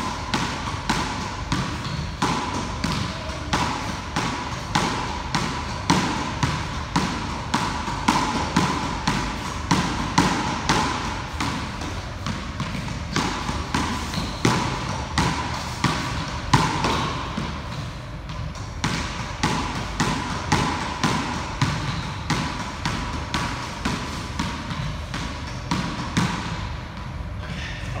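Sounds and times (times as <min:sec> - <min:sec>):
squash ball smacks: 0:00.0 - 0:27.2.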